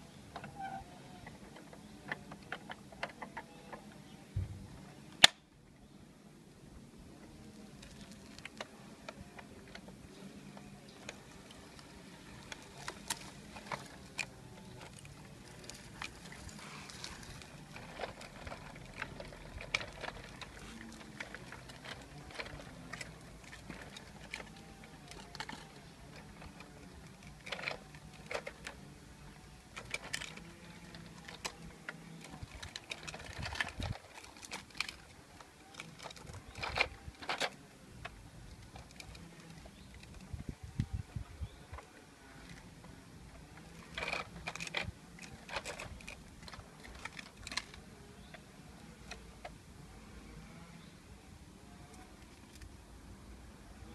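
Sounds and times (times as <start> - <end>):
faint outdoor background: 0.0 - 53.9.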